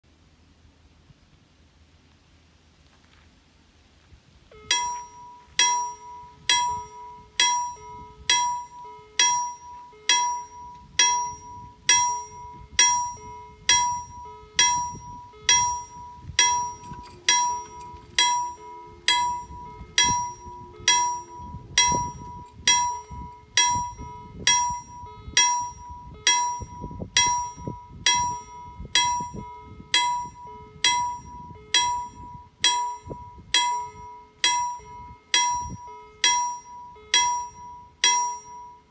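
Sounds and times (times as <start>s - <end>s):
level crossing warning bell: 4.5s - 38.9s.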